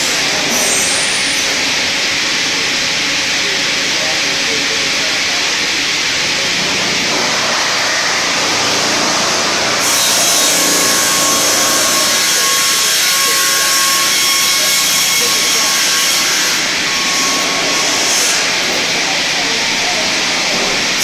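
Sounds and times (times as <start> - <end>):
circular saw sawing log: 0.0 - 3.9, 4.7 - 21.0.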